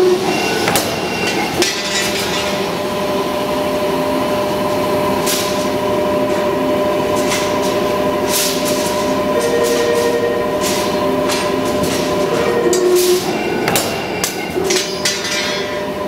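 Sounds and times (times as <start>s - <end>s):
machine whine and rumble: 0.0s - 16.0s.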